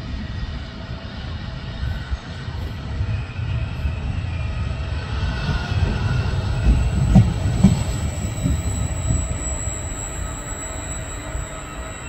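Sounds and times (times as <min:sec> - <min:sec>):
train wheels rumbling on rails: 0:00.0 - 0:12.0
faint wheel squeal: 0:02.0 - 0:12.0.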